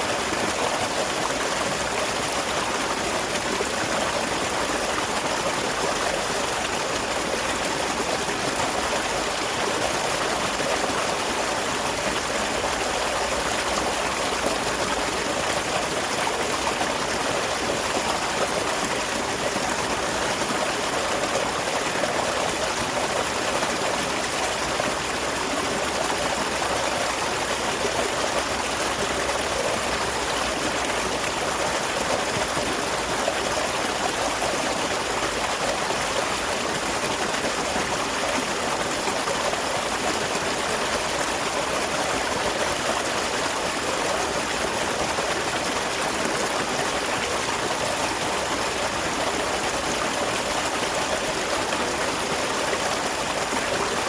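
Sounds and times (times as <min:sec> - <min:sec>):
small waterfall rushing: 0:00.0 - 0:54.0.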